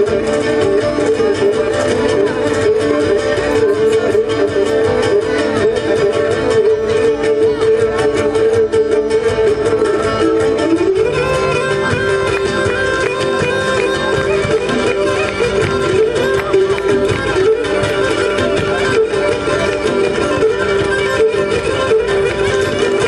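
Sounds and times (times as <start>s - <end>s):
lyra playing a melody: 0.0s - 23.0s
plucked string accompaniment: 0.0s - 23.0s.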